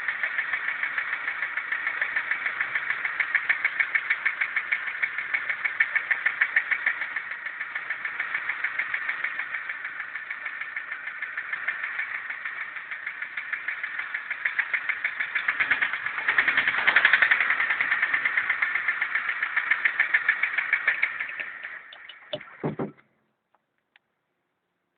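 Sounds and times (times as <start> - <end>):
petrol engine idling with knock: 0.0 - 23.3.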